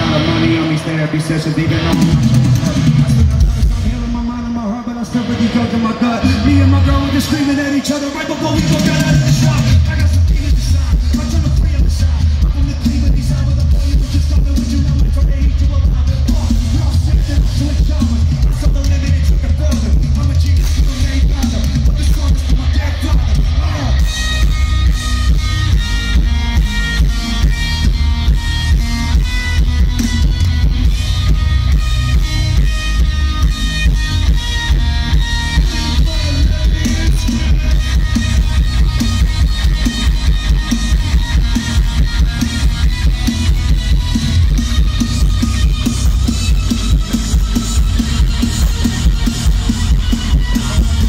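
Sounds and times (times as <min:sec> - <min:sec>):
electric guitar picked riff: 0:00.0 - 0:51.0
live rock music with heavy bass: 0:00.0 - 0:51.0
drums with steady beat: 0:01.5 - 0:51.0.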